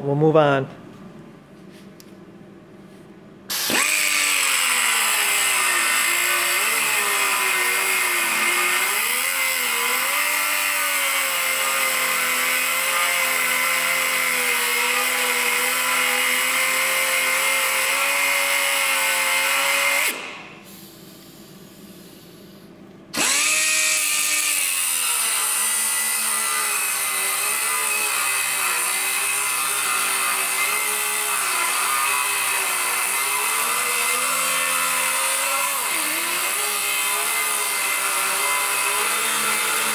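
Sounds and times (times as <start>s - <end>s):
angle grinder grinding steel: 3.5s - 20.2s, 23.2s - 39.9s.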